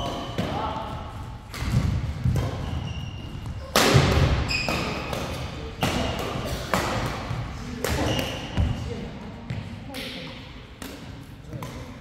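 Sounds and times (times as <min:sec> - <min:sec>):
court shoes squeaking: 0:00.0 - 0:09.7.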